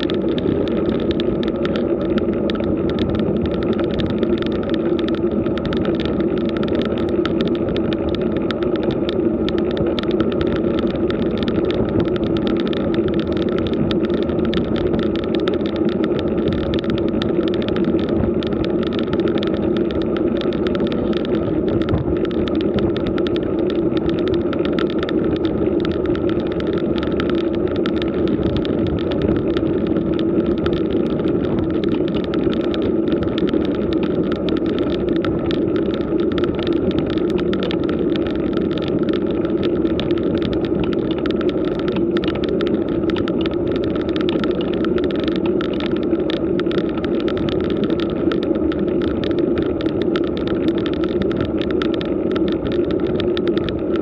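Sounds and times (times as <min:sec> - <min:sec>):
bike tyres rolling on asphalt: 0:00.0 - 0:54.0
constant hum: 0:00.0 - 0:54.0.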